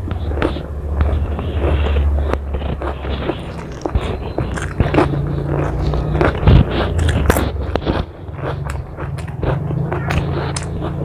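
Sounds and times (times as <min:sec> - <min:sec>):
chewing food: 0:00.0 - 0:11.0
wet mouth clicks: 0:00.0 - 0:11.0
crunchy bite into chip: 0:01.6 - 0:11.0.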